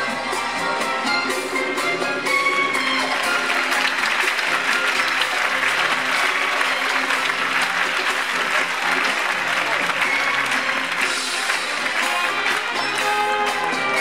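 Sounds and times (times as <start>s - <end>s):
backing music with held tones: 0.0s - 14.0s
audience applause: 1.3s - 14.0s.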